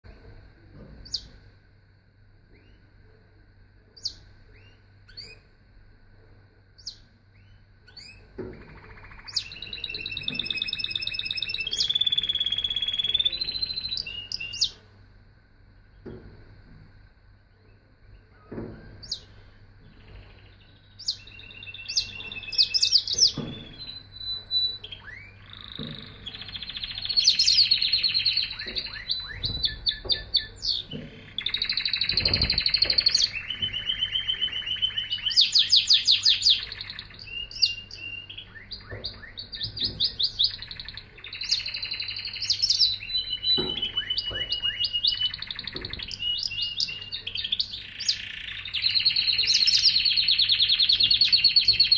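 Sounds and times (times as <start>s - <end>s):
canary singing trills: 1.0s - 1.4s, 2.5s - 3.0s, 3.9s - 5.5s, 6.8s - 14.8s, 17.6s - 51.9s.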